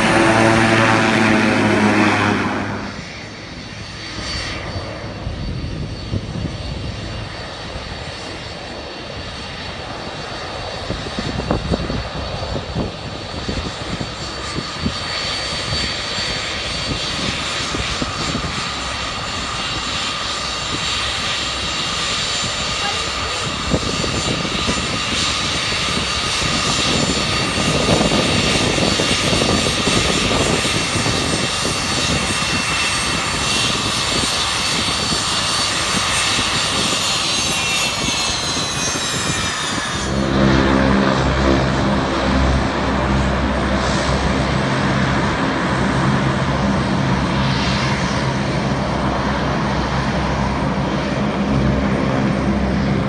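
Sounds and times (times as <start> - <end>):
jet engine whine: 0.0 - 53.0
turboprop engines drone: 0.0 - 53.0.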